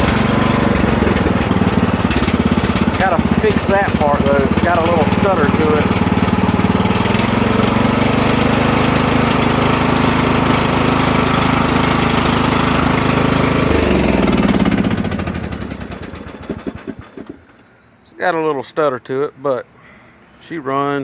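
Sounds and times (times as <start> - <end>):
mower engine running with stutter: 0.0 - 17.6.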